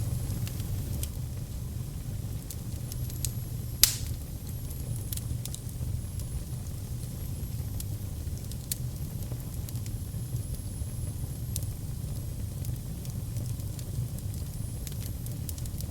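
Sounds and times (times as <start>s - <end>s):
fire crackles and pops: 0.0s - 15.9s
fire rumbling in fireplace: 0.0s - 15.9s.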